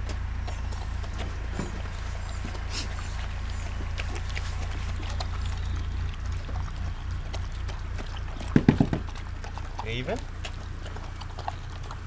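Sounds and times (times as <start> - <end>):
dogs slurping and chewing: 0.0 - 12.0
steady low rumble: 0.0 - 12.0.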